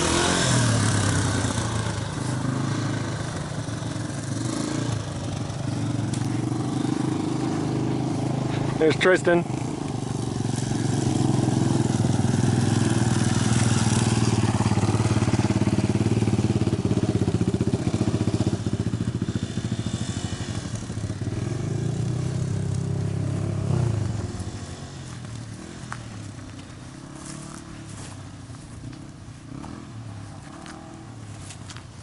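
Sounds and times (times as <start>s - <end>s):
dirt bike engine: 0.0s - 32.0s.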